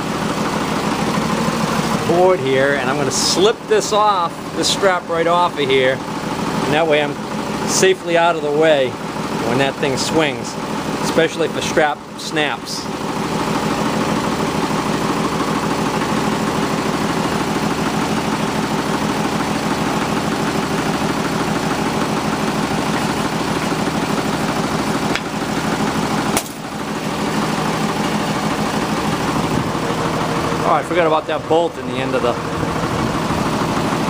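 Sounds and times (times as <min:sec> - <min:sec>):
loader engine idling: 0:00.0 - 0:34.0.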